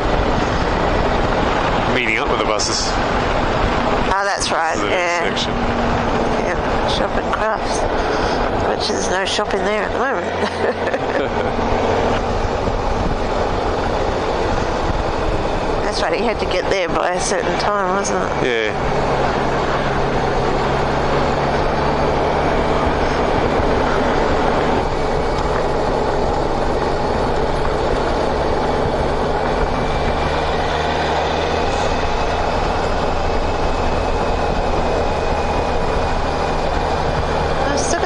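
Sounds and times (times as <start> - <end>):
motorcycle engine cruising: 0.0 - 38.0
wind and road rush: 0.0 - 38.0.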